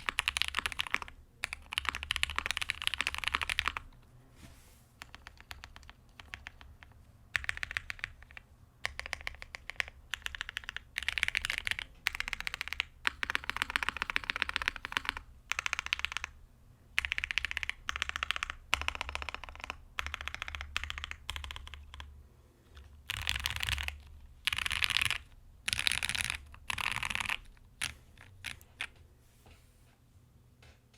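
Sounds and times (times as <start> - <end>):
mechanical keyboard typing: 0.0 - 4.0, 5.0 - 16.4, 17.0 - 22.1, 22.8 - 28.9.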